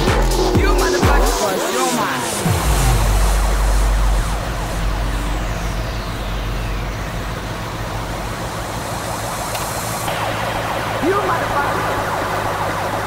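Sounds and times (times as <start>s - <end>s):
motorcycle engines running: 0.0s - 13.0s
road and wind hiss: 0.9s - 13.0s.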